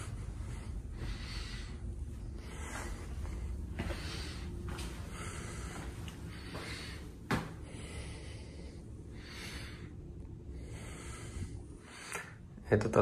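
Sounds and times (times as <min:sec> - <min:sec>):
soft breathing: 0:00.0 - 0:12.6.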